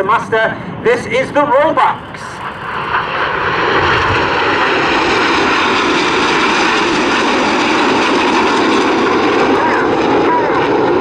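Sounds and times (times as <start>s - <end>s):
loud jet engine noise: 0.0s - 11.0s.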